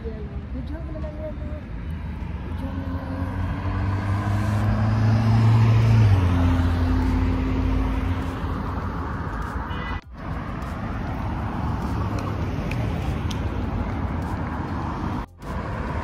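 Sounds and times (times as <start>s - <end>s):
traffic noise: 0.0s - 16.0s
vehicle engine passing by: 1.9s - 16.0s.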